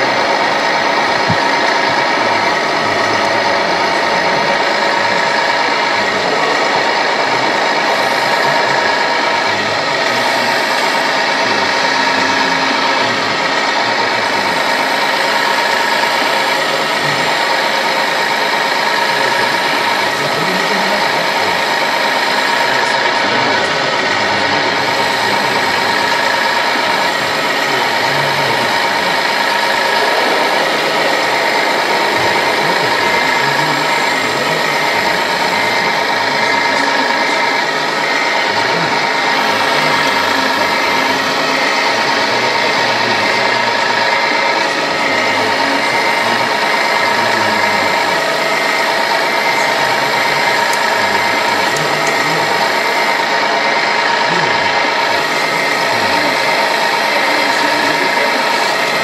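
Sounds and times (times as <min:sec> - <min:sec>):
electric motors whining: 0:00.0 - 0:59.0.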